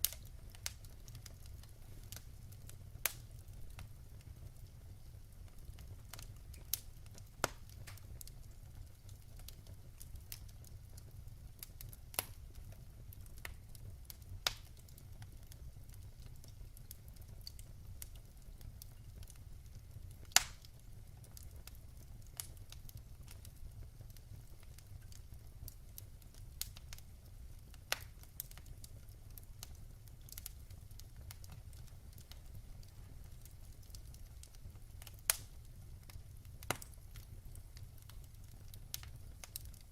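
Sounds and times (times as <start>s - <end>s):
low steady fire rumble: 0.0s - 39.9s
wood fire crackling and popping: 0.0s - 39.9s.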